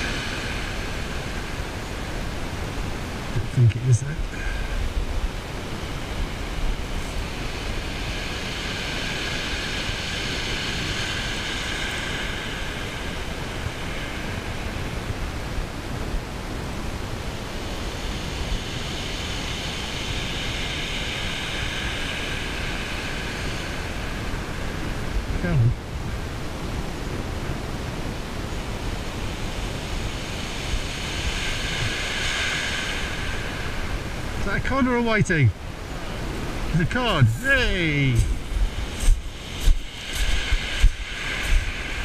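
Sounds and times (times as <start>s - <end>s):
high whirring: 0.0s - 42.0s
sea noise: 0.0s - 42.0s
wind on microphone: 0.0s - 42.0s.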